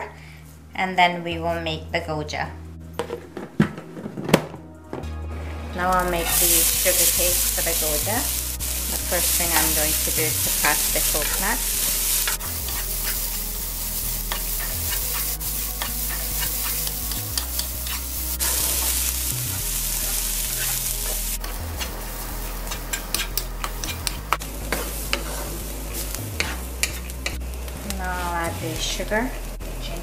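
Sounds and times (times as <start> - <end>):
sizzling hiss: 5.8 - 30.0
wooden spatula scraping a wok: 5.8 - 30.0.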